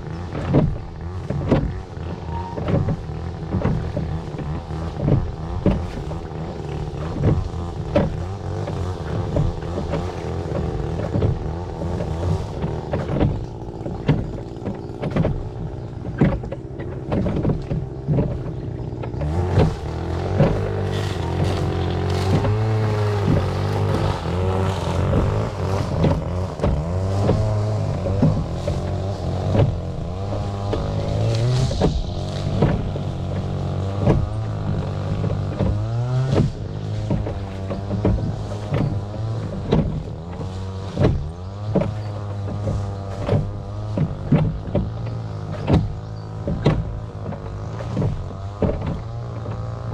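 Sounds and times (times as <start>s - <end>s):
boat motor humming: 0.0s - 49.9s
knocks and splashes on hull: 0.0s - 49.9s.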